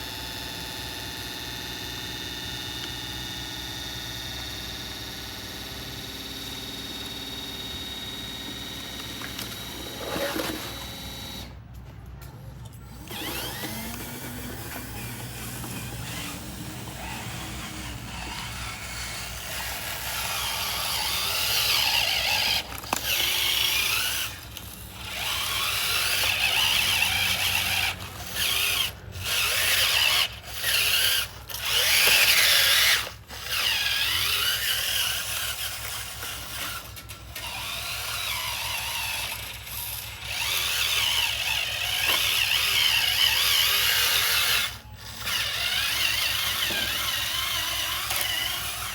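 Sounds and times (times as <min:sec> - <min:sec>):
small electric motors whining: 0:00.0 - 0:11.8, 0:12.5 - 0:48.9.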